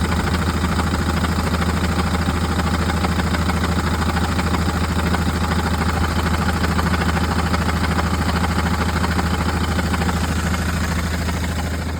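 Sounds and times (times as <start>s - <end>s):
van engine idling with rattle: 0.0s - 11.9s.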